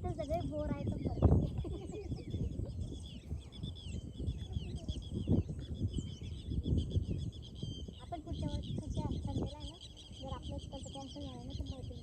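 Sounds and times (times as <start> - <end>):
birds chirping and trilling: 0.0 - 12.0.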